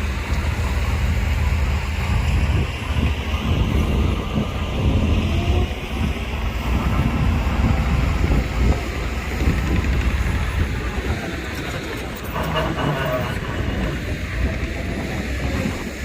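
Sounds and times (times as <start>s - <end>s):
heavy diesel engine rumbling: 0.0s - 16.0s.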